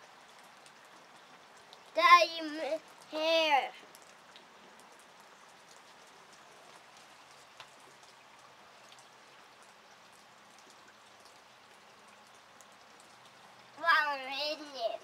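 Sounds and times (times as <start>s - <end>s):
light rain falling: 0.0s - 15.0s
raindrops ticking: 0.0s - 15.0s.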